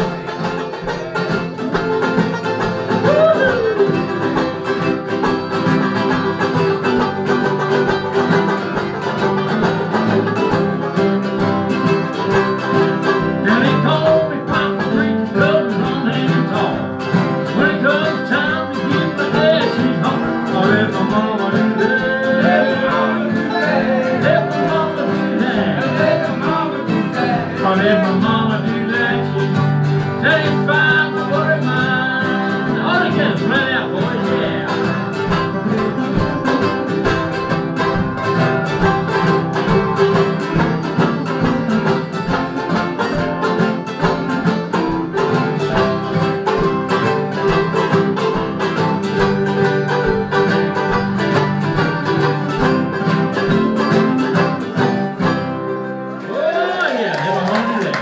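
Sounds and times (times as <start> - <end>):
banjo picking: 0.0 - 56.8
acoustic guitars: 0.0 - 58.0
mandolin: 0.0 - 58.0.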